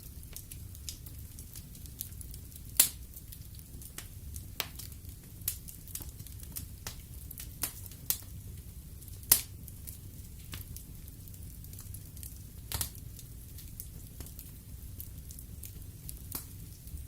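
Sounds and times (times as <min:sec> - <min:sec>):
burning logs crackling and popping: 0:00.0 - 0:17.0
low rumble of fire flames: 0:00.0 - 0:17.0.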